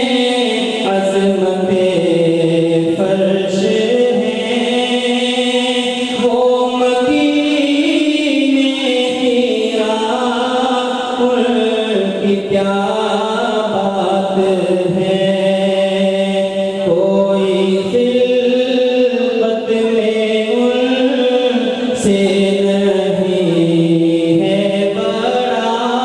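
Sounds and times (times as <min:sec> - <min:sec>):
man singing into a microphone: 0:00.0 - 0:26.0.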